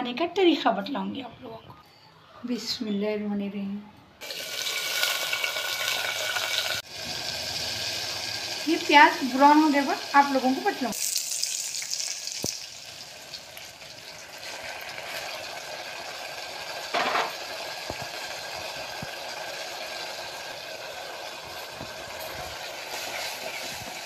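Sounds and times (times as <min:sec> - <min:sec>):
onions sizzling in hot oil: 0:04.2 - 0:24.0.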